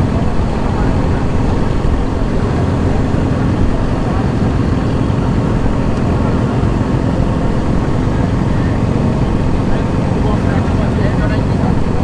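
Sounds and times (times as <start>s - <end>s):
motorcycle engine rumble: 0.0s - 12.0s
wind rushing over microphone: 0.0s - 12.0s.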